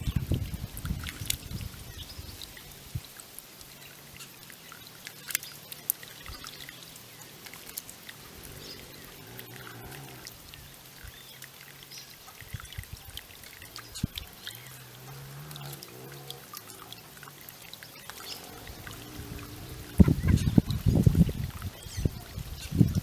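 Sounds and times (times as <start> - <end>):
fountain water trickling: 0.0 - 23.0
small splashes: 0.0 - 23.0.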